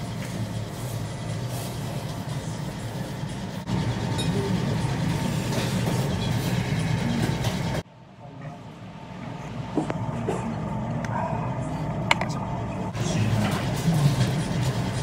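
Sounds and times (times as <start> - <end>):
low rumbling hum: 0.0 - 15.0
restaurant background noise: 0.0 - 15.0.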